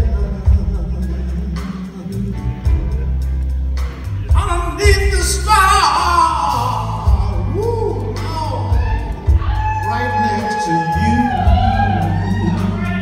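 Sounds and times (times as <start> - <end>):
man singing: 0.0 - 3.2, 4.2 - 13.0
bass guitar: 0.0 - 13.0
drums: 0.0 - 13.0.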